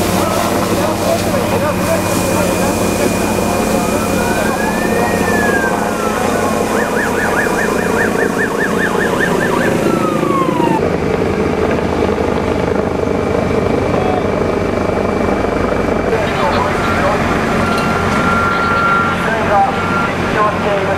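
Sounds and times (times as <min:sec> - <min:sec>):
emergency vehicle siren: 0:00.0 - 0:12.9, 0:16.0 - 0:20.9
engine rumble: 0:00.0 - 0:20.9.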